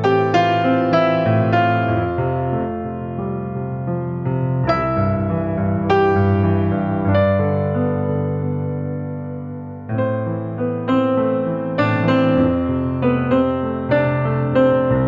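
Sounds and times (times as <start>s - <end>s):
soft electric piano music: 0.0s - 15.0s.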